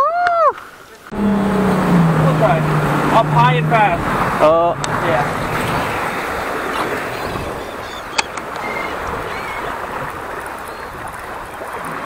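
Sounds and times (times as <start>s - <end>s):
wind: 0.0s - 12.0s
sea water rushing along hull: 0.4s - 12.0s.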